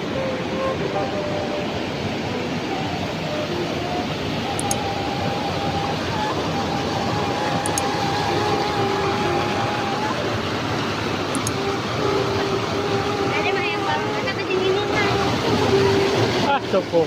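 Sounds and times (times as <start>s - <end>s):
thin steady whine: 0.0s - 17.0s.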